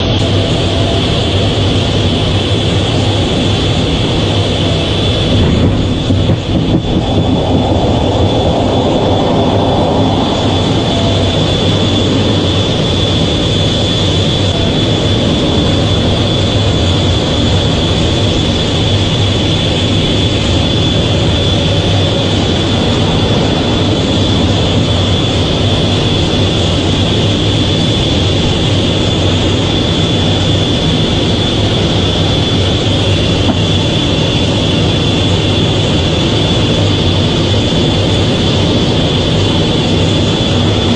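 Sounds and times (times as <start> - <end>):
fighter jet engine rumble: 0.0 - 40.9.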